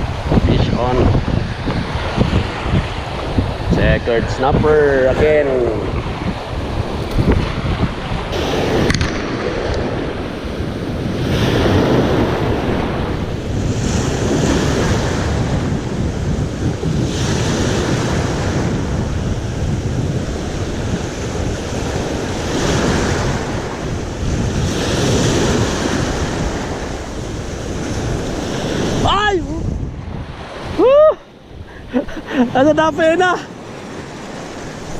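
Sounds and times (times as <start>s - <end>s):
waves washing onto shore: 0.0s - 34.9s
wind buffeting microphone: 0.0s - 34.9s.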